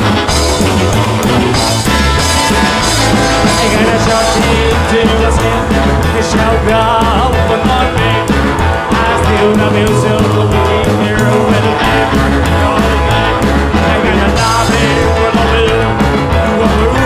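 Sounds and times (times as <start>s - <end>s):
person singing: 0.0s - 17.0s
rock and roll music: 0.0s - 17.0s.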